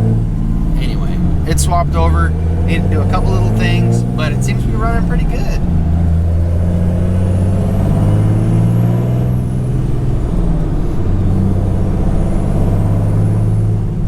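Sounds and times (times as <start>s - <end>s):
diesel engine driving drone: 0.0s - 14.0s.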